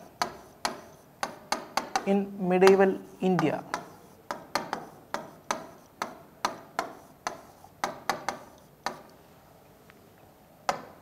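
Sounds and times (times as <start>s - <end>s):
marker tapping on whiteboard: 0.1s - 9.1s, 10.7s - 11.0s.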